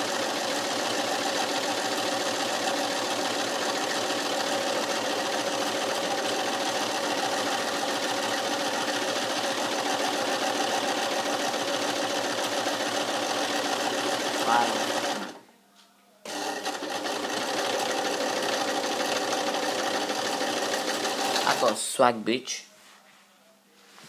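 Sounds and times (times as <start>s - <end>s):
electric sewing machine running: 0.0s - 15.4s, 16.3s - 21.8s.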